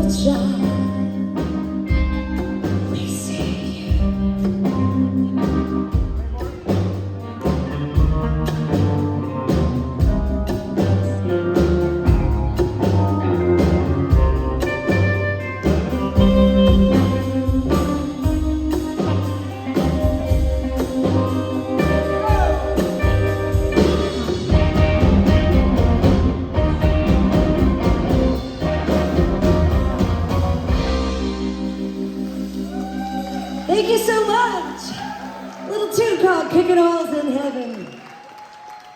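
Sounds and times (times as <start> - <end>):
drums steady beat: 0.0 - 34.8
live country-rock band: 0.0 - 37.4.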